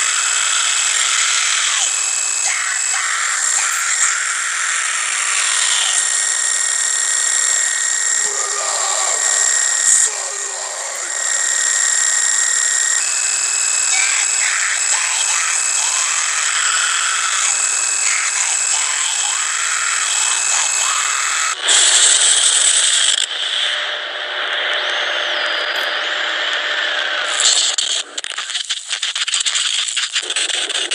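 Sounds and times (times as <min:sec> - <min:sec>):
static-like hissing drone: 0:00.0 - 0:30.9.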